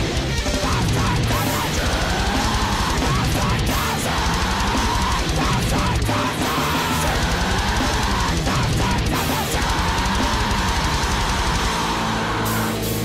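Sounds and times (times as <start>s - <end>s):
distorted electric guitars: 0.0s - 13.0s
drum kit: 0.0s - 13.0s.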